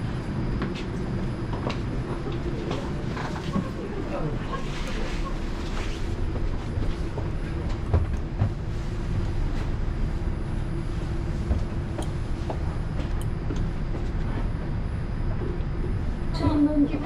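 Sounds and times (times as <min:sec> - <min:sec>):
low hum of train: 0:00.0 - 0:17.0.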